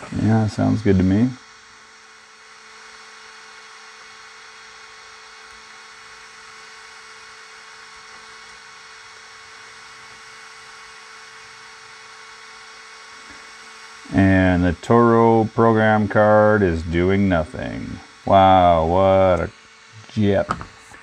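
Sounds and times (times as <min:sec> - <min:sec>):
electrical hum and whine: 0:00.0 - 0:21.0.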